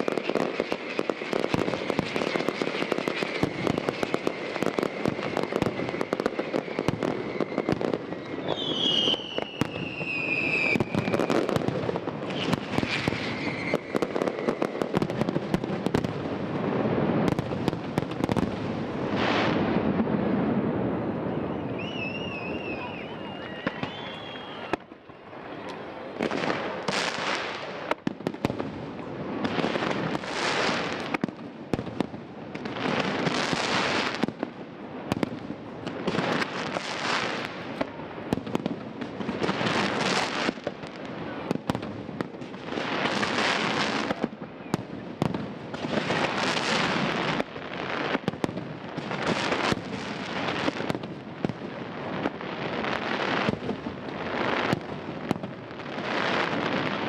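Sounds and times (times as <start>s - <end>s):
fireworks crackle: 0.0s - 57.0s.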